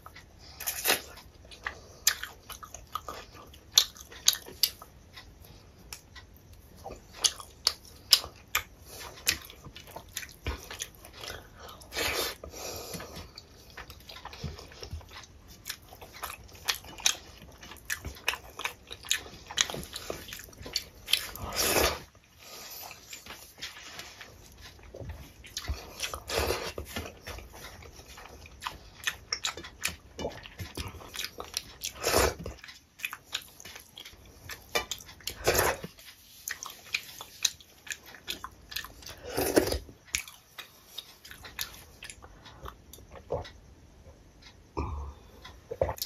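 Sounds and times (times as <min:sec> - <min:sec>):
person chewing with mouth clicks: 0:00.0 - 0:43.7, 0:44.4 - 0:46.0.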